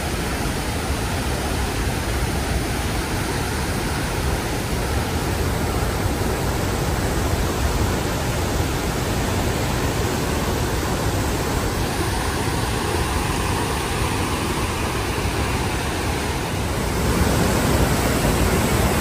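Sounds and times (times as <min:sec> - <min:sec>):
whitewater rapids and waterfall rushing: 0:00.0 - 0:19.0.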